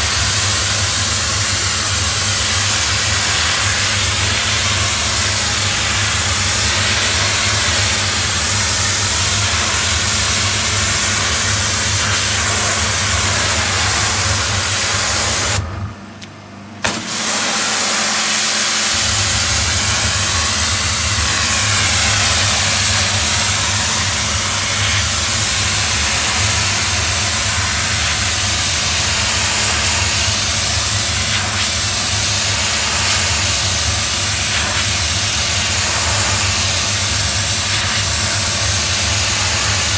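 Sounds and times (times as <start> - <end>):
steam spray hissing on slabs: 0.0 - 15.6, 16.9 - 39.9.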